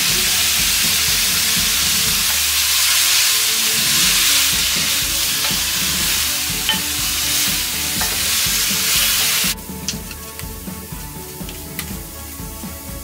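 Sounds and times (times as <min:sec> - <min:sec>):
vegetables sizzling in a pan: 0:00.0 - 0:13.0
wooden spoon stirring: 0:00.0 - 0:13.0.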